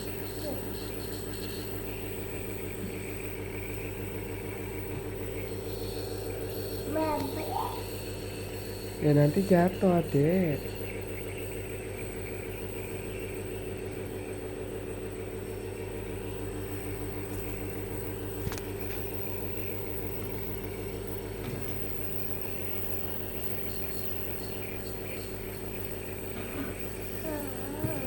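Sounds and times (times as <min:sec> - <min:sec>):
electric motor hum: 0:00.0 - 0:28.0.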